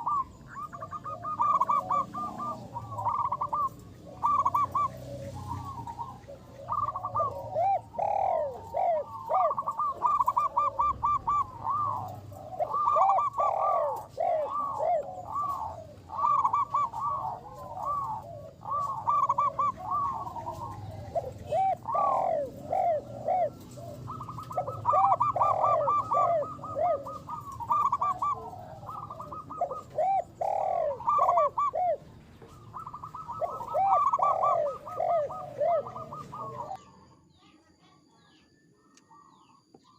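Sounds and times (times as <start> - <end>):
doves cooing: 0.0 - 37.6, 38.2 - 39.9.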